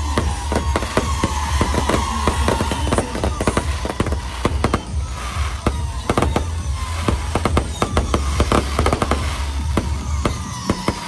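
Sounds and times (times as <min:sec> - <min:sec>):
fireworks bangs and crackles: 0:00.0 - 0:11.0
music with steady bass: 0:00.0 - 0:11.0.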